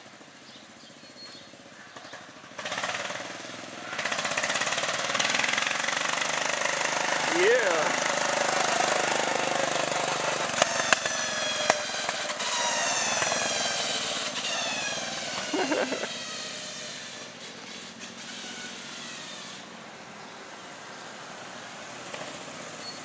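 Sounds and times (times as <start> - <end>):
garden tractor engine passing: 0.0 - 23.0.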